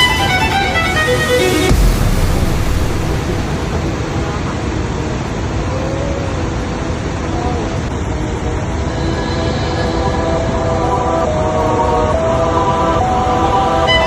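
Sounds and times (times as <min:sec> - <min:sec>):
rushing outdoor ambience: 0:00.0 - 0:14.0.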